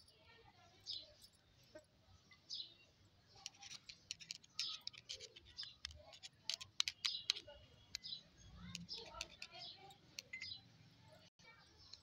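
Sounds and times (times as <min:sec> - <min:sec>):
small bird chirping: 0:00.7 - 0:12.0.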